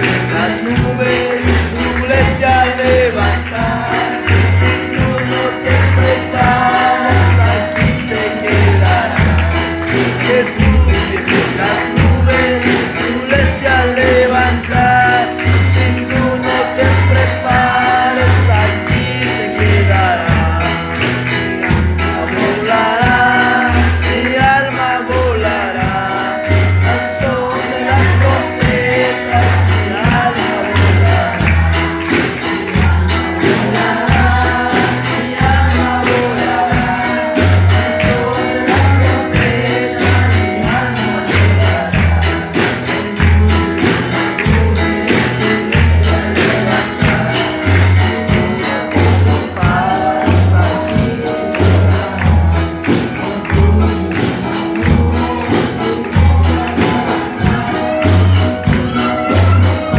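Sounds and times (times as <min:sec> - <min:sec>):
drum kit beat: 0:00.0 - 0:59.9
keyboards: 0:00.0 - 0:59.9
sung vocals: 0:00.0 - 0:59.9.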